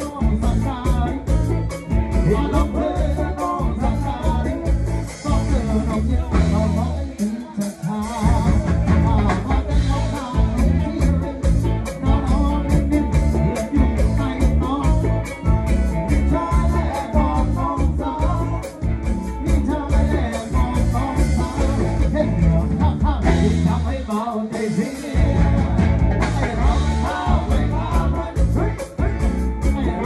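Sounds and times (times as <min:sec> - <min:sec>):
drum beat: 0:00.0 - 0:24.2, 0:25.0 - 0:30.0
bass guitar: 0:00.0 - 0:30.0
live band playing: 0:00.0 - 0:30.0
person singing: 0:00.0 - 0:30.0.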